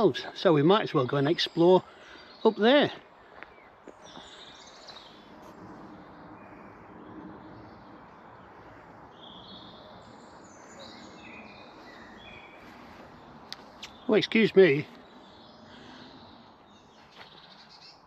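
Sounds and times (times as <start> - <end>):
birds chirping and warbling: 0.0 - 18.0.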